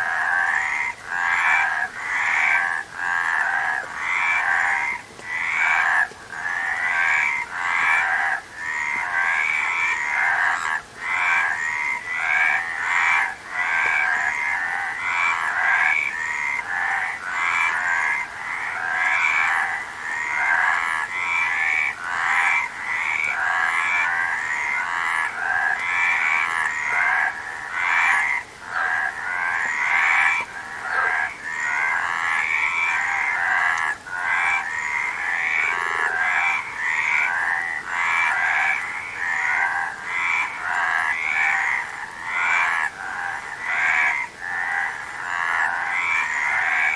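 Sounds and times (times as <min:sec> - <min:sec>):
frogs croaking: 0:00.0 - 0:46.9.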